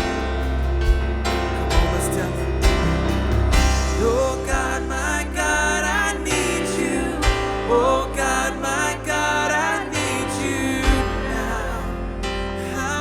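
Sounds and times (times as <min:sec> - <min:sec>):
worship band with singing: 0:00.0 - 0:13.0.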